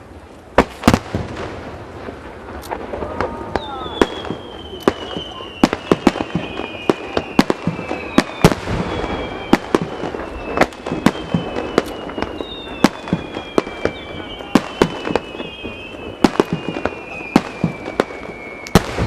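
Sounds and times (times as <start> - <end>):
fireworks bangs: 0.0 - 19.0
falling firework whistles: 0.6 - 19.0.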